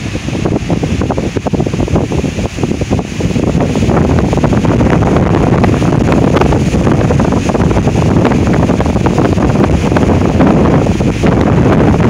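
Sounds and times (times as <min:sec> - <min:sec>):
wind buffeting microphone: 0:00.0 - 0:12.0
wind rushing through trees: 0:00.0 - 0:12.0.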